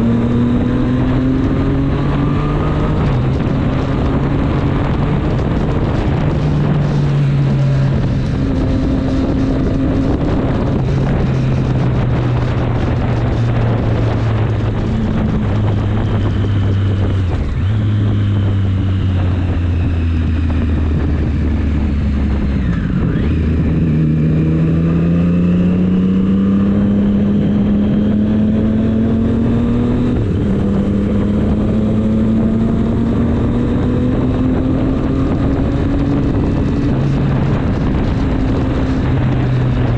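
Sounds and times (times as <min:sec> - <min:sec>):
motorcycle engine and exhaust: 0:00.0 - 0:39.9
wind buffeting microphone: 0:00.0 - 0:39.9.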